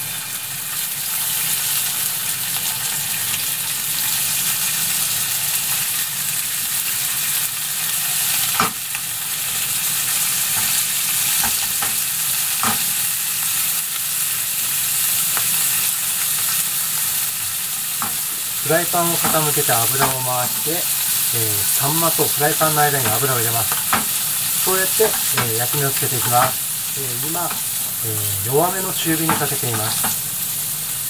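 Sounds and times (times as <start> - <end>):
fish sizzling in a frying pan: 0.0 - 31.0.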